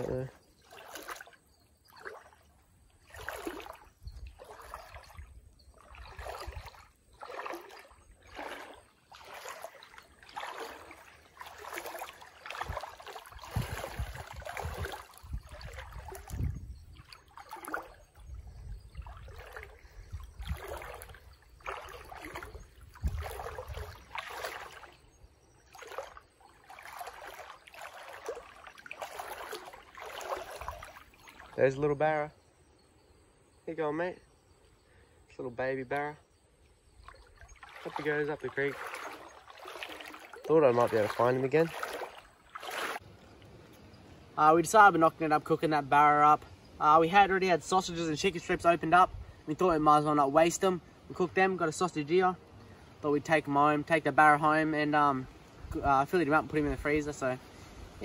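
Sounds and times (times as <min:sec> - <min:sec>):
footsteps sloshing through water: 0:00.0 - 0:32.8, 0:35.9 - 0:58.0.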